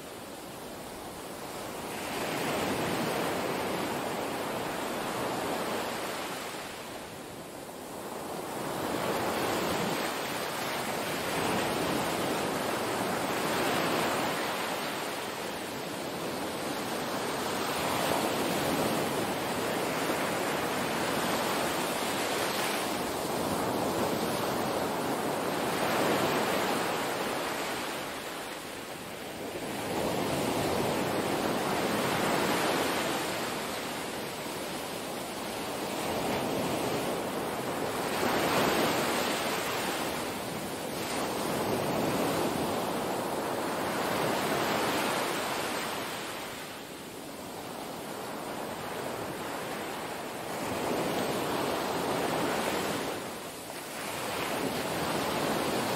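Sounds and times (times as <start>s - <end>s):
small waves washing onto beach: 0.0s - 55.9s.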